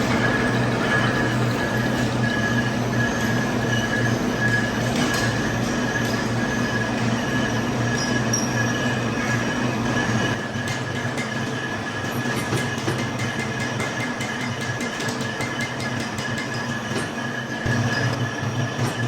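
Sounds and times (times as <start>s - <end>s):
heavy machine humming and whining: 0.0s - 19.0s
metal-working noise: 0.0s - 19.0s.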